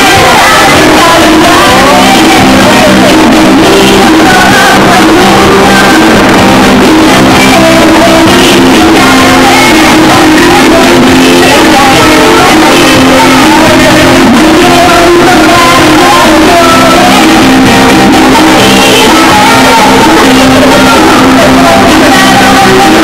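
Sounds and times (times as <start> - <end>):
loud music with singing: 0.0 - 23.0.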